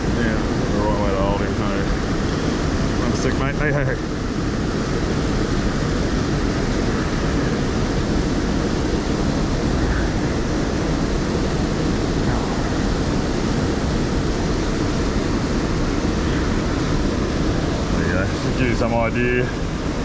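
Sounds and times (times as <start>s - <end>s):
river water rushing over rapids: 4.0s - 20.0s.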